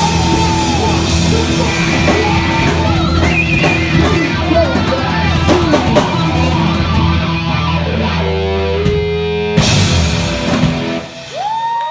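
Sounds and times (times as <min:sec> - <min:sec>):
distorted guitar note sliding up: 0:00.0 - 0:11.3
funk rock band playing: 0:00.0 - 0:11.5
full band hit: 0:00.0 - 0:11.9.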